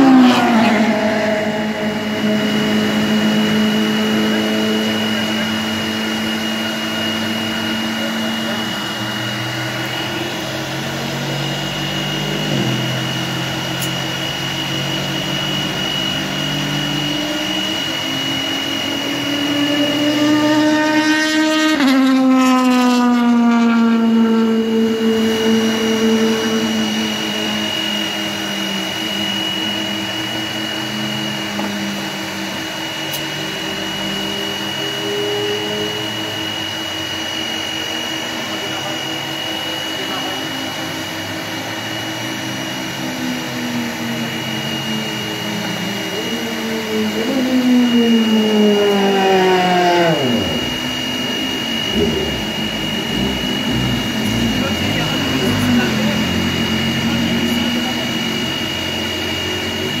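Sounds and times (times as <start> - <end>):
race car engine idling: 0.0 - 29.2, 39.9 - 60.0
high whine: 0.0 - 60.0
motor drone winding down: 0.0 - 60.0.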